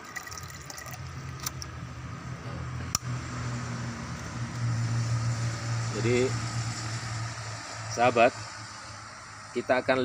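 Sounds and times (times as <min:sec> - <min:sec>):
low engine hum: 0:00.0 - 0:09.9.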